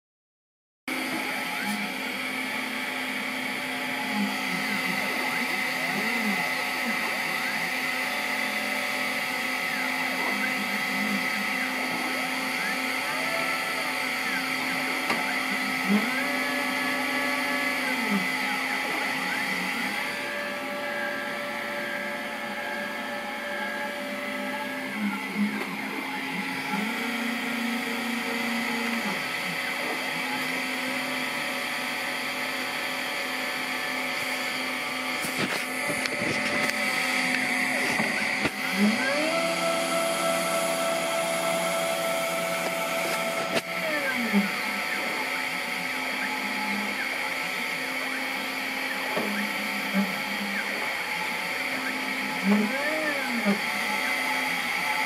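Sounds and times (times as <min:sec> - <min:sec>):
machine steady hum: 0:00.9 - 0:55.0
stepper motors whining: 0:00.9 - 0:55.0.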